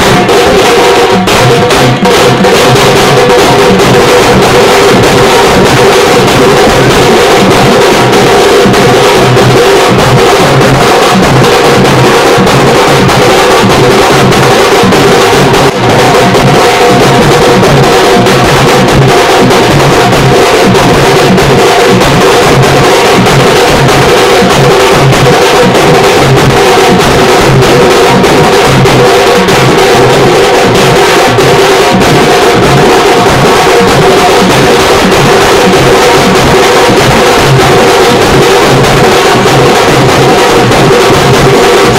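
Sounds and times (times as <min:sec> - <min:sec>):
fast drumming on large drums: 0:00.0 - 0:41.9.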